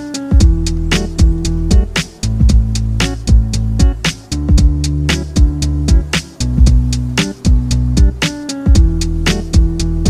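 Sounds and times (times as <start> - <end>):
steady drum beat: 0.0 - 10.0
sustained bass and guitar: 0.0 - 10.0.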